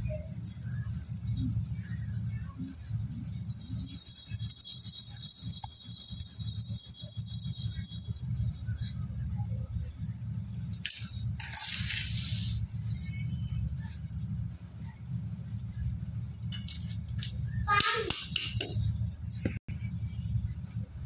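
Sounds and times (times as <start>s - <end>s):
bangles jingling: 0.0s - 9.6s, 10.7s - 15.0s, 15.7s - 19.6s.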